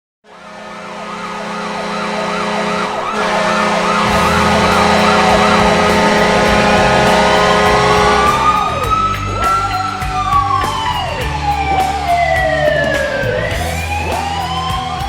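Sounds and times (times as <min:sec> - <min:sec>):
goal horn low blast: 0:00.3 - 0:15.0
siren wailing: 0:00.3 - 0:15.0.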